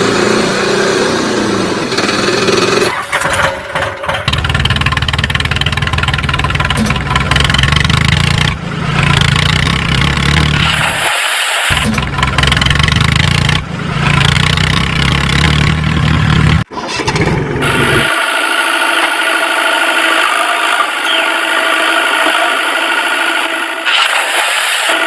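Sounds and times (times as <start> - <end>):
vehicle engine rumble: 0.0 - 11.0, 11.7 - 23.8.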